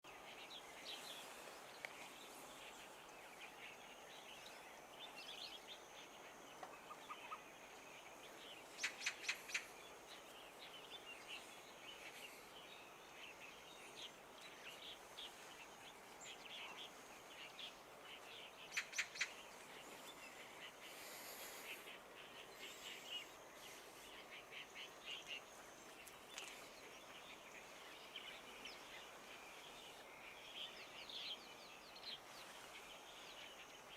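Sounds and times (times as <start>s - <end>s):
open-country background noise: 0.0s - 33.9s
small birds chirping: 0.0s - 33.9s.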